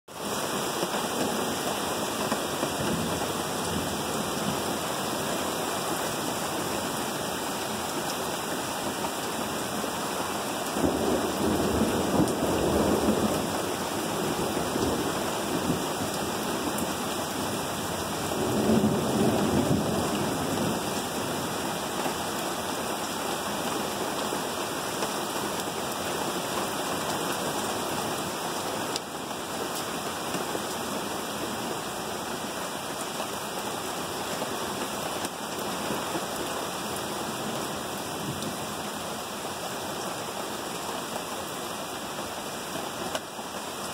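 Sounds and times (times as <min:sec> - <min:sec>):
heavy rain falling: 0:00.1 - 0:43.9.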